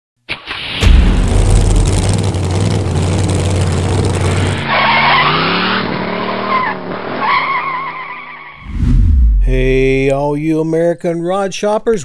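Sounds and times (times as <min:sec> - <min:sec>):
car engine revving: 0:00.4 - 0:10.2.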